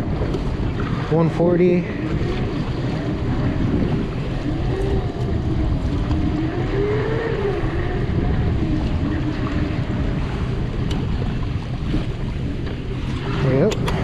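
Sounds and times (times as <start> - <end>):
boat motor running: 0.0 - 14.0
wavering motor whine: 0.0 - 14.0
wind on microphone: 0.0 - 14.0.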